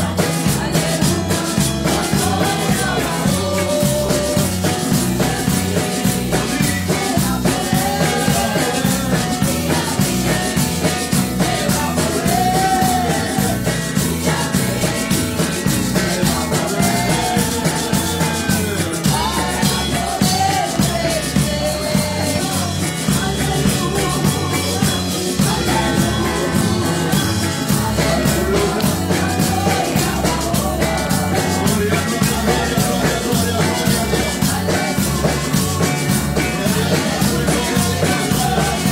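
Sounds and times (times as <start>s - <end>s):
electric bass guitar: 0.0s - 38.9s
man singing: 0.0s - 38.9s
steady rhythmic beat: 0.0s - 38.9s
woman singing: 0.0s - 38.9s.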